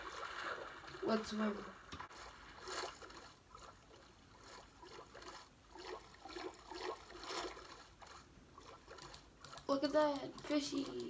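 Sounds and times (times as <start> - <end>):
game water splashes: 0.0 - 9.3.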